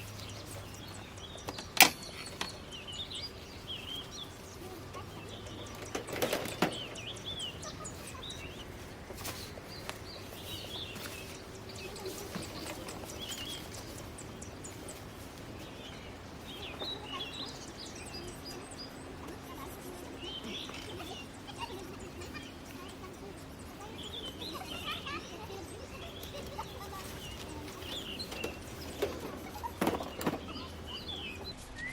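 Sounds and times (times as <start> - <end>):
small birds chirping: 0.0 - 31.9.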